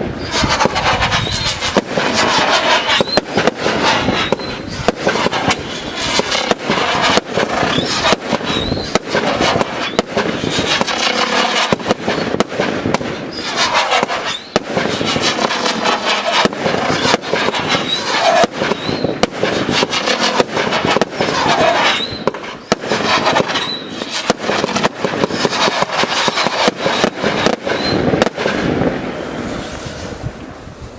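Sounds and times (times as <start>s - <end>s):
firework shots and bursts: 0.0s - 30.9s
firework whistles: 0.0s - 30.9s.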